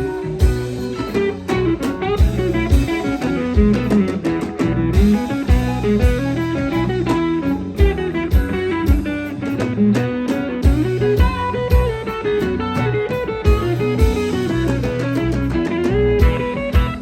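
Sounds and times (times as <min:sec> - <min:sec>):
bass: 0:00.0 - 0:17.0
drum kit beat: 0:00.0 - 0:17.0
guitar: 0:00.0 - 0:17.0.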